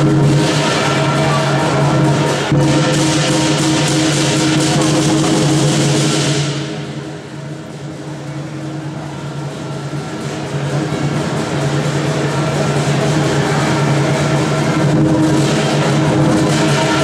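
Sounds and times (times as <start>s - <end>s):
cymbals clashing: 0.0s - 17.0s
gong ringing: 0.0s - 17.0s
large drum beating: 0.0s - 17.0s.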